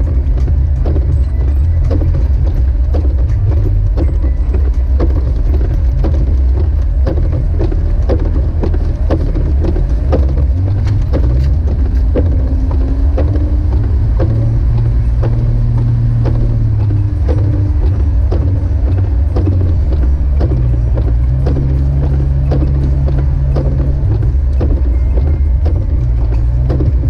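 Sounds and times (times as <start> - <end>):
engine and tyres rumbling: 0.0 - 27.0.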